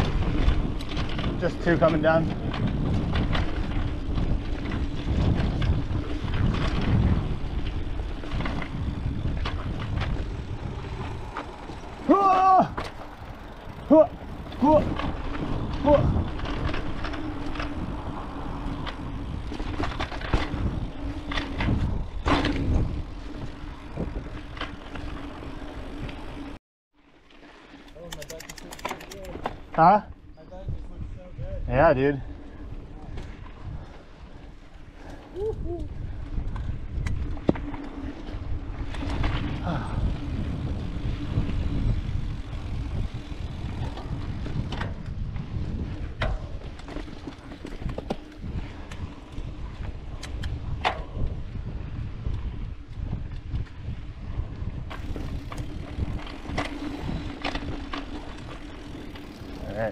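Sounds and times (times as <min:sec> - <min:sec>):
wind buffeting microphone: 0:00.0 - 0:26.6, 0:27.9 - 0:59.9
bike rattling over bumps: 0:00.0 - 0:59.9
bike tyre noise: 0:00.0 - 0:59.9.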